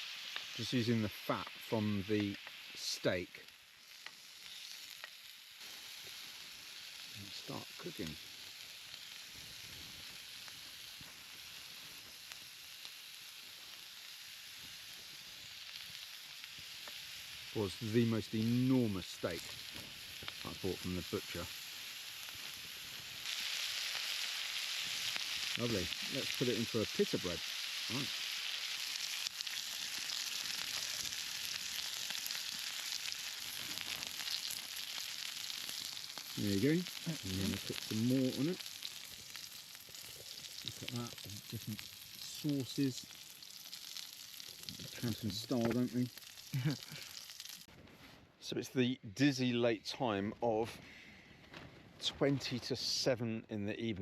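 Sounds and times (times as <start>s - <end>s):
steak sizzling: 0.0s - 47.7s.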